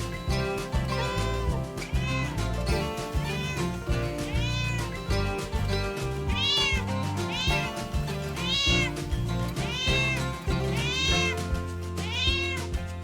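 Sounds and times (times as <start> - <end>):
background music: 0.0 - 13.0
cat meowing: 0.9 - 5.3, 6.3 - 12.8.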